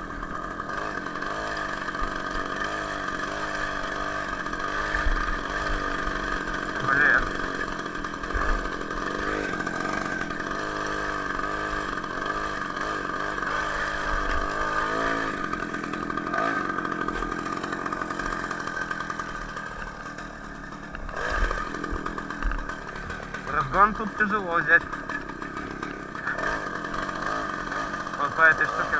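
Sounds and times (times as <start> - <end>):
two-stroke engine under load: 0.0 - 28.9.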